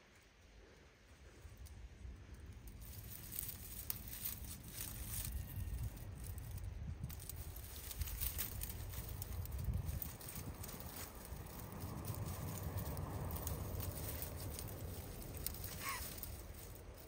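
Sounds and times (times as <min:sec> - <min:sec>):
dry stems and leaves crackling: 0:00.0 - 0:17.0
low microphone rumble: 0:01.3 - 0:17.0.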